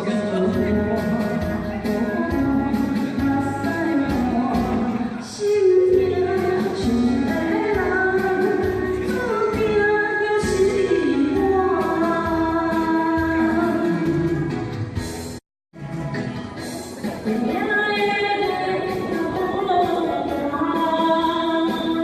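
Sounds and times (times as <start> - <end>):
person singing pop ballad: 0.0 - 14.6, 17.0 - 22.0.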